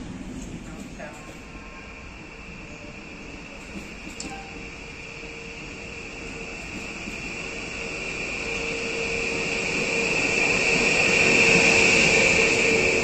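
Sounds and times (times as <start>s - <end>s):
electric train whine: 0.0s - 13.0s
train hum: 0.0s - 13.0s
train wheels rolling rumble: 0.0s - 13.0s.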